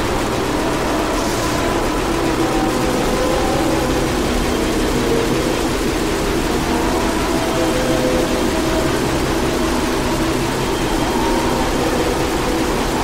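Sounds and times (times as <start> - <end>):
heavy metal song: 0.0 - 13.0.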